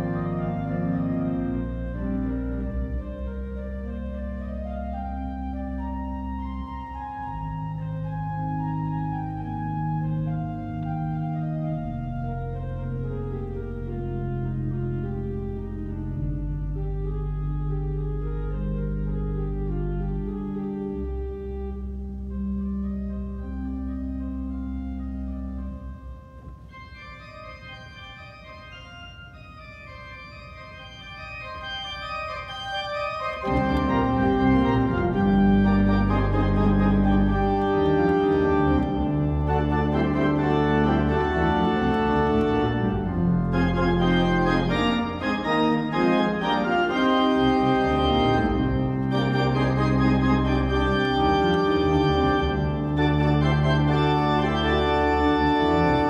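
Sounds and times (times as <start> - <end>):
church organ playing: 0.0 - 56.0.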